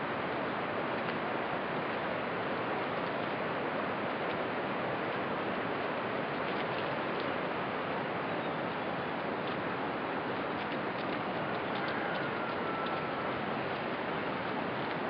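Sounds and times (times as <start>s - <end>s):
steady hiss of noise: 0.0s - 15.0s.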